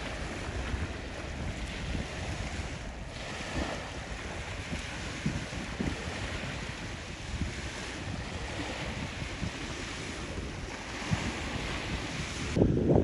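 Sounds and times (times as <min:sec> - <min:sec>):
small waves washing onto beach: 0:00.0 - 0:13.0
wind buffeting microphone: 0:00.0 - 0:13.0.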